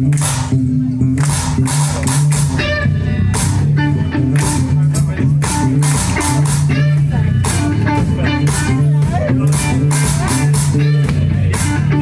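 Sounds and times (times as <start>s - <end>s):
bass line: 0.0s - 12.0s
drums: 0.0s - 12.0s
guitar riff: 0.0s - 12.0s.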